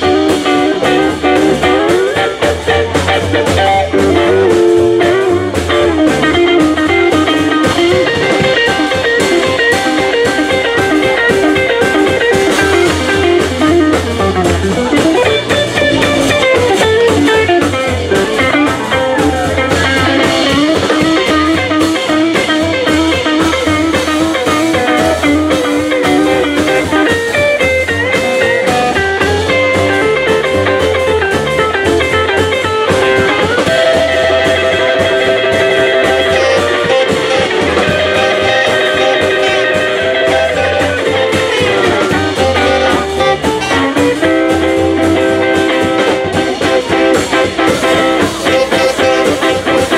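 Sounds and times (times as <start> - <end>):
electric guitar: 0.0 - 49.9
live jazz band: 0.0 - 49.9.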